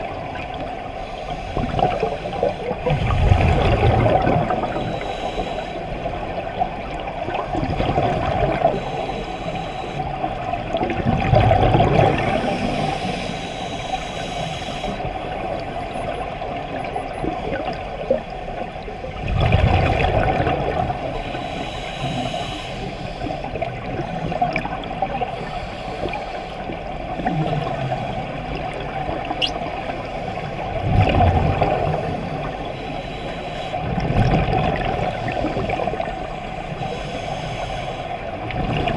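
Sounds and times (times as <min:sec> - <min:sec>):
steady underwater hiss: 0:00.0 - 0:38.9
underwater bubbling rushes: 0:00.0 - 0:38.9.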